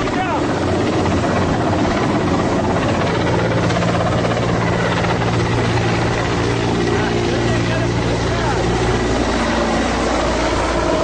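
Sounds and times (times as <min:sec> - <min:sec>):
helicopter rotor and engine: 0:00.0 - 0:11.0
outboard motors: 0:00.0 - 0:11.0.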